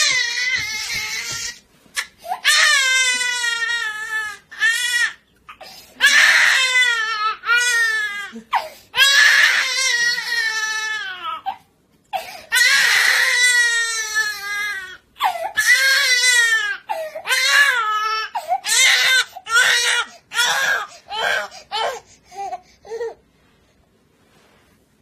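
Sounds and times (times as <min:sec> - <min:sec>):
infant crying: 0:00.0 - 0:23.2.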